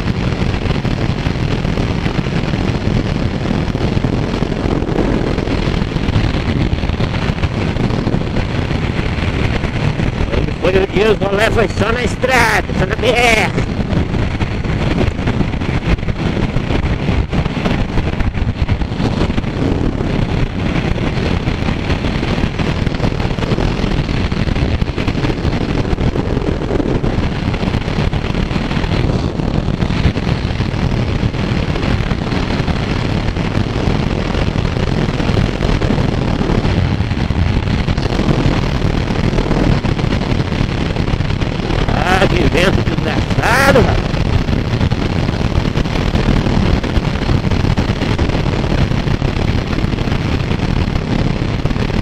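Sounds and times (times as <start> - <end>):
motorcycle engine at speed: 0.0 - 52.0
wind noise on microphone: 0.0 - 52.0.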